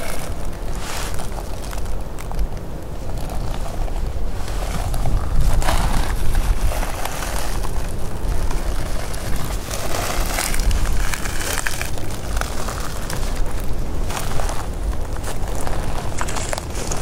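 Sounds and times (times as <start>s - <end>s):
footsteps on dry pine needles: 0.0s - 17.0s
wind buffeting microphone: 0.0s - 17.0s.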